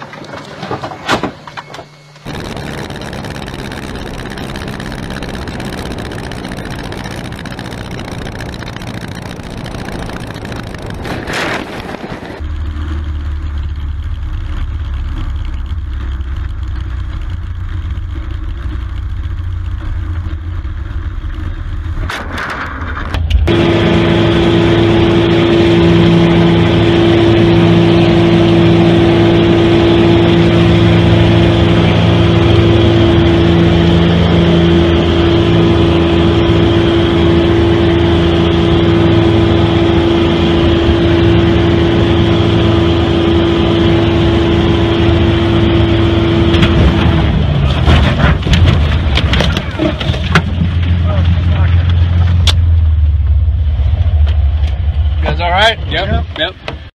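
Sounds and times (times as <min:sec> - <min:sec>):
light plane rumble: 0:00.0 - 0:56.9
piston engine drone in cabin: 0:00.0 - 0:56.9.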